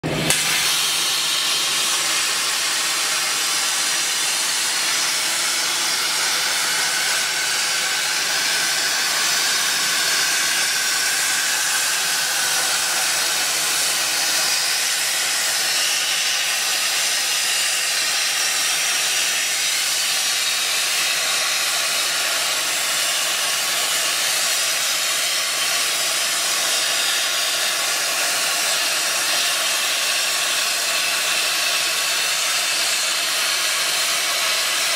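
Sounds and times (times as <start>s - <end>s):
plasma torch hissing: 0.0s - 34.9s.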